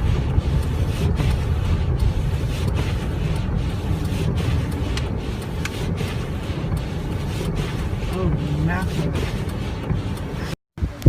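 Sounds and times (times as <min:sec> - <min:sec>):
car road and engine rumble: 0:00.0 - 0:11.0
turn signal ticking: 0:00.0 - 0:11.0.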